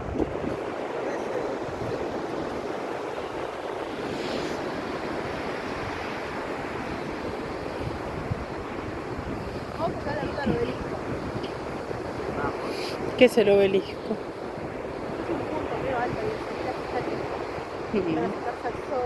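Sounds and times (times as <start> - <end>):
ocean surf washing onto beach: 0.0 - 19.0
wind buffeting microphone: 0.0 - 19.0.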